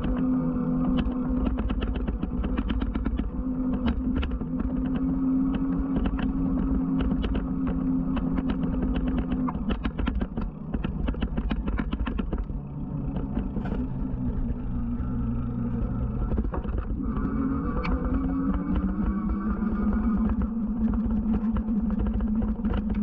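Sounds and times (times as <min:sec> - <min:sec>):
rapid rattling clicks: 0:00.0 - 0:23.0
rumble of wind and tyres: 0:00.0 - 0:23.0
steady motor hum: 0:00.0 - 0:23.0.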